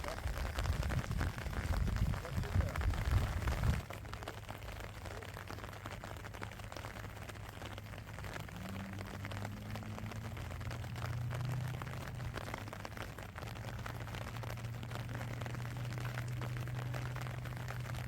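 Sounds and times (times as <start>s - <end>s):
rain drops ticking: 0.0s - 18.0s.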